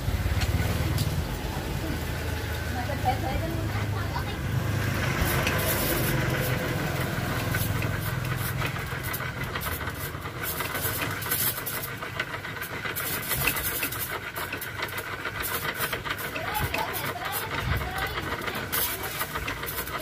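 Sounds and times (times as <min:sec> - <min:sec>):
coil-winding jig whirring: 0:00.1 - 0:20.0.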